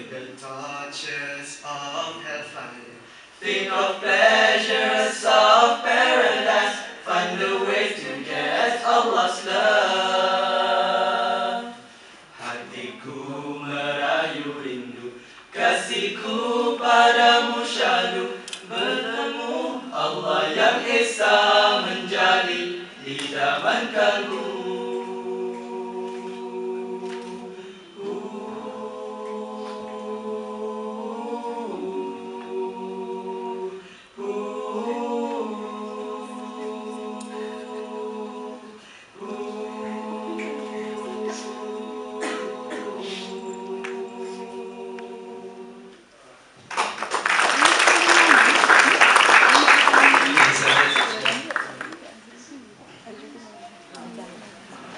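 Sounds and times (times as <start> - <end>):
male group singing a cappella: 0.0 - 46.1.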